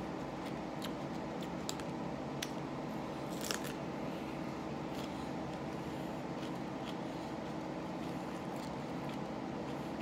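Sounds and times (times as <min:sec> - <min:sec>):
crunchy peppers being chewed: 0:00.0 - 0:10.0
steady background hum: 0:00.0 - 0:10.0.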